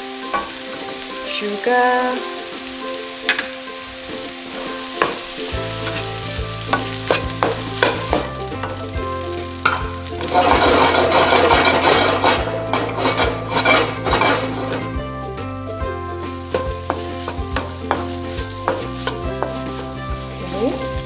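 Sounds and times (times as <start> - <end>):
rice sizzling in a pan: 0.0 - 21.0
spatula scraping a pan: 2.5 - 15.0, 16.0 - 21.0.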